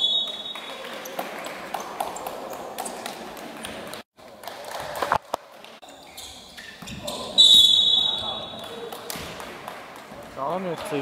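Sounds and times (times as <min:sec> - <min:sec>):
gym hall noise: 0:00.0 - 0:11.0.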